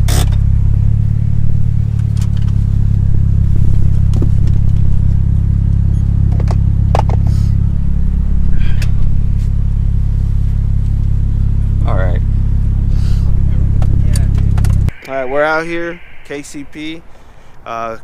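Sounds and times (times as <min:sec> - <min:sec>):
car engine running: 0:00.0 - 0:17.6.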